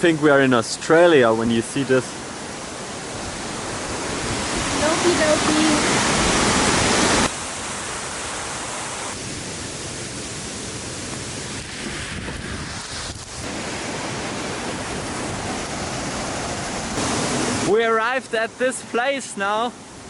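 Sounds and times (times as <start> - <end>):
waterfall rushing: 0.1 - 20.0.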